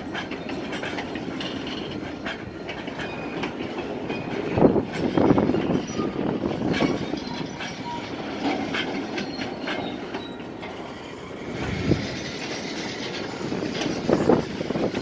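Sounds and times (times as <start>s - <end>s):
freight train rumbling past: 0.0s - 15.0s
train wheels clacking on rail joints: 0.0s - 15.0s.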